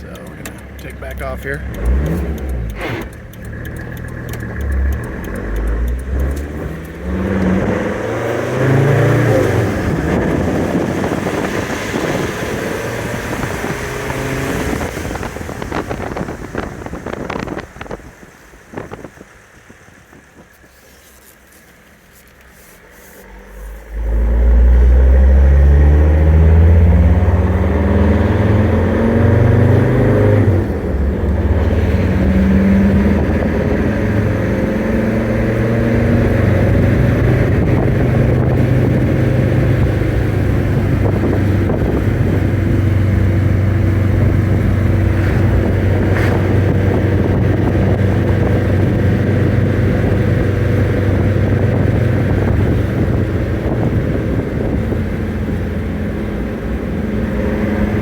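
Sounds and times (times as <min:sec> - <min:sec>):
diesel engine accelerating: 0:00.0 - 0:20.6, 0:22.8 - 0:58.0.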